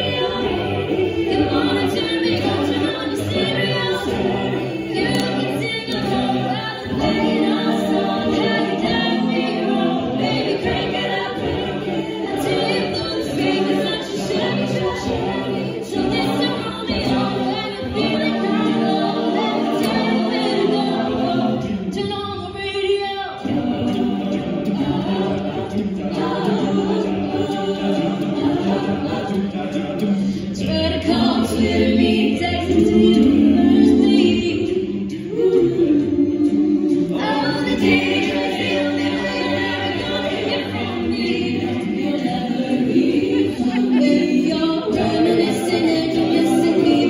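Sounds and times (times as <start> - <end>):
a cappella choir singing: 0.0 - 47.0.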